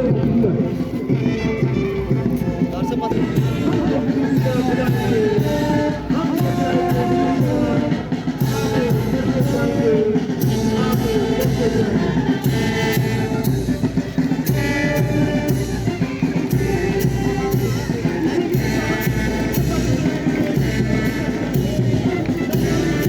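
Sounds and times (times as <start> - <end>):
steady drum beat: 0.0 - 23.0
sustained melody or singing: 0.0 - 23.0.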